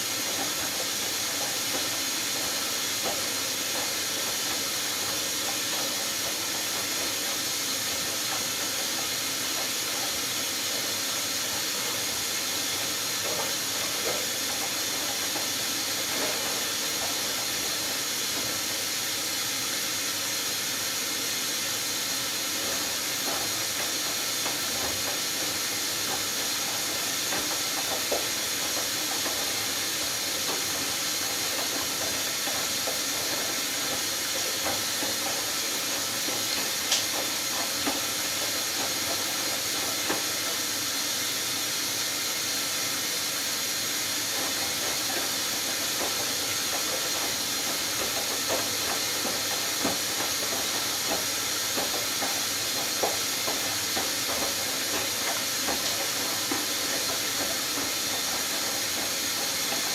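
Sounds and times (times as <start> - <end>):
washing machine water hiss: 0.0 - 59.9.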